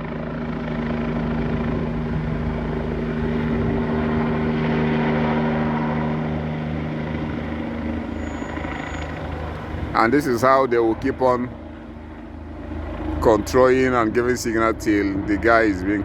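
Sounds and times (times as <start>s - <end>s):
helicopter rotor drone: 0.0s - 16.0s.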